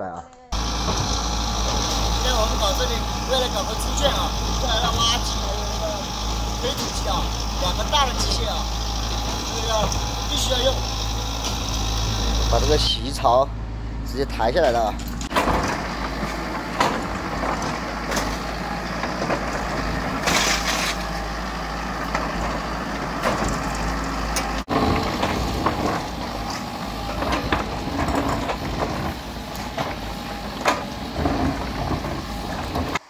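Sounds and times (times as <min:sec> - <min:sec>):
excavator diesel engine running: 0:00.5 - 0:33.0.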